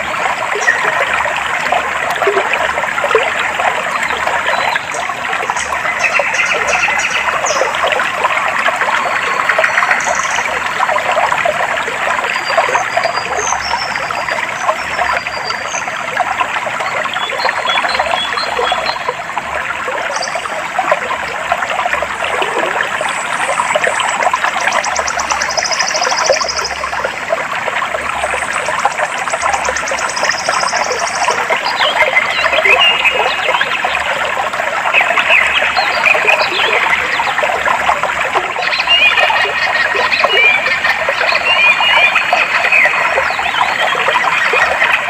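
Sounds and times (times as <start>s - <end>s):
stream water trickling: 0.0s - 45.0s.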